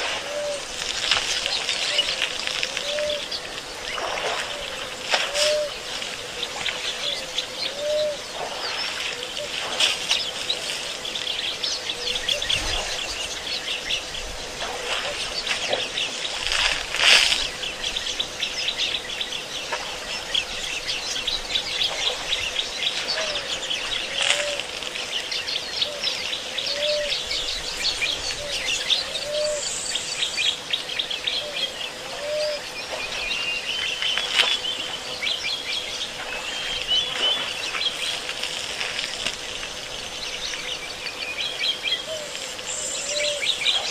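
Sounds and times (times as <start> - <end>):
birds chirping and twittering: 0.0 - 43.9.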